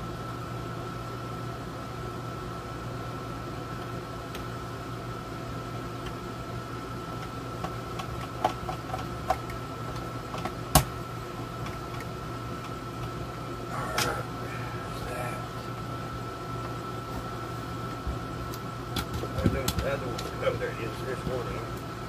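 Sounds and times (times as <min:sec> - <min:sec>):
air conditioner humming: 0:00.0 - 0:22.0.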